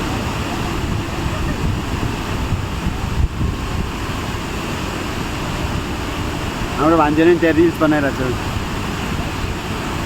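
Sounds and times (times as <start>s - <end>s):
waterfall roaring: 0.0s - 10.0s
wind buffeting microphone: 0.0s - 10.0s.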